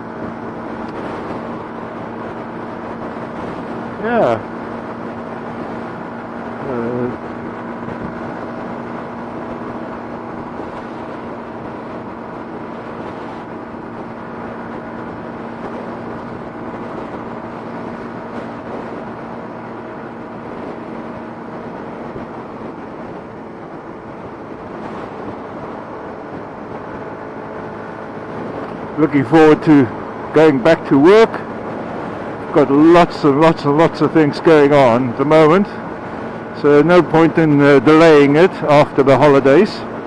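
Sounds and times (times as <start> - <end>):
motorcycle engine hum: 0.0 - 40.0
wind and road noise: 0.0 - 40.0.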